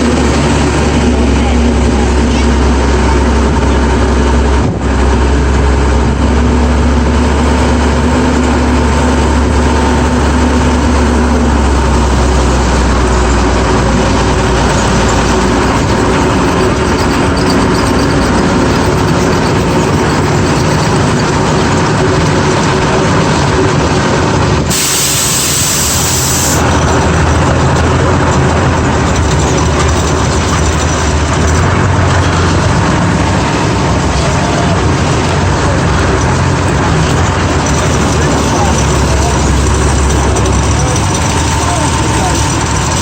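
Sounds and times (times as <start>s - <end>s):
truck engine droning: 0.0s - 43.0s.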